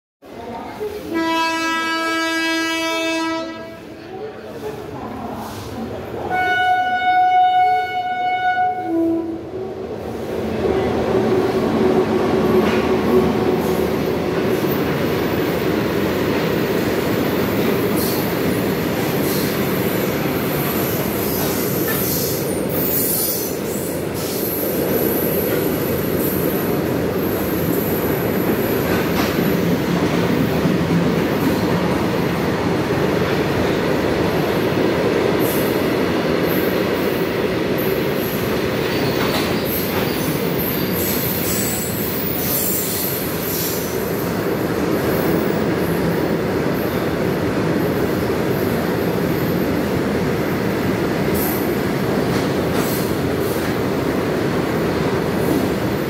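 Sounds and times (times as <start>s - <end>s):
train wheels rumbling on rail: 8.3s - 56.0s.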